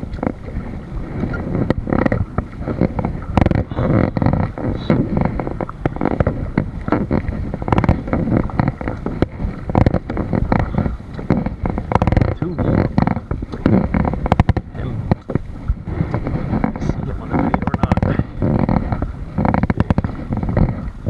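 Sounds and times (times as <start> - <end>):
water splashing around a kayak: 0.0 - 21.0.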